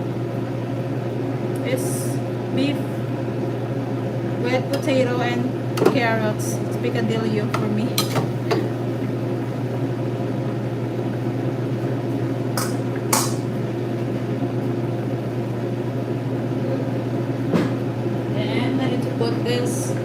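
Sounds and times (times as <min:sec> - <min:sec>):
kitchen appliance hum: 0:00.0 - 0:20.0.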